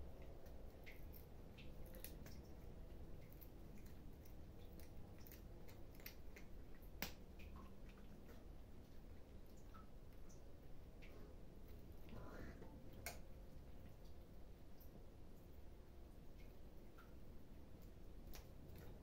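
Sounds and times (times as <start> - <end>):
cats chewing food: 0.0 - 19.0.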